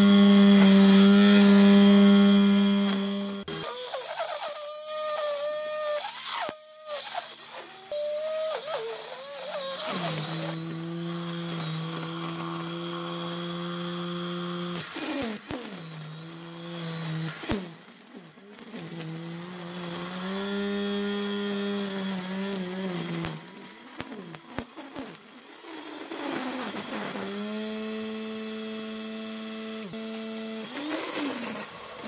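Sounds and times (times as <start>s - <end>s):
electric motor whine: 0.0s - 32.0s.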